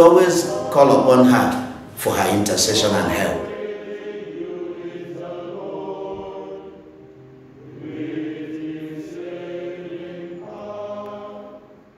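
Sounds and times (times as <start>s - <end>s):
choral chant: 0.0s - 11.9s.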